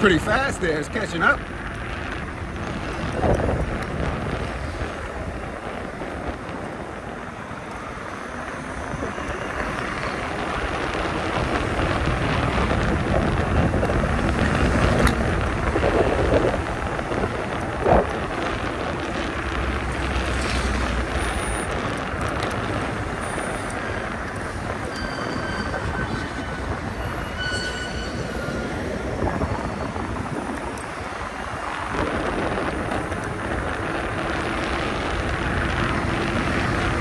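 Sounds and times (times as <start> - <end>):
fat tires humming on ground: 0.0 - 37.0
wind on microphone: 0.3 - 37.0.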